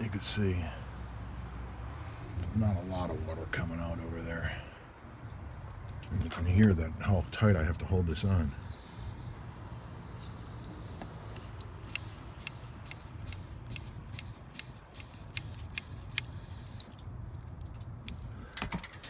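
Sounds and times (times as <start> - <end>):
hose leaking spits and clicks: 2.4 - 19.0.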